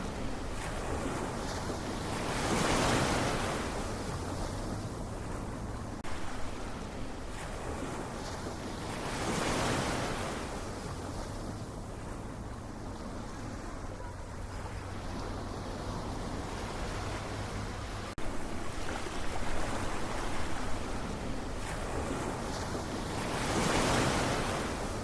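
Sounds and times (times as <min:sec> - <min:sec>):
ocean waves breaking on shore: 0:00.0 - 0:25.0.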